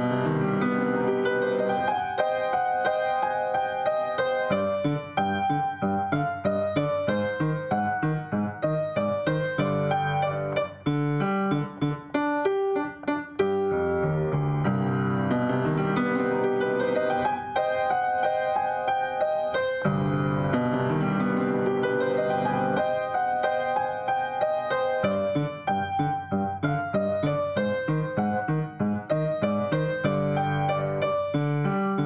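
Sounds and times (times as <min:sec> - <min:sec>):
piano playing: 0:00.0 - 0:32.0.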